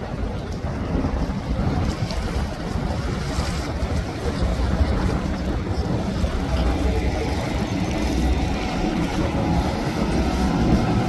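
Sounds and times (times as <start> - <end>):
boat engines droning: 0.0 - 11.0
water rushing from hull: 0.0 - 11.0.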